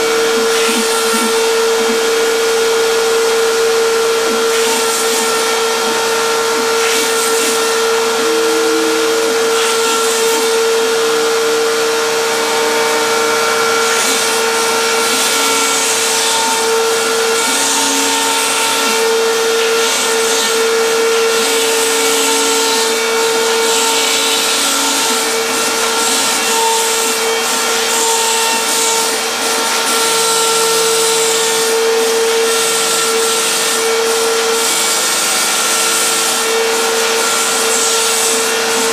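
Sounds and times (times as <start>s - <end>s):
drive motors humming tones: 0.0s - 38.9s
spindle motor whine: 0.0s - 38.9s.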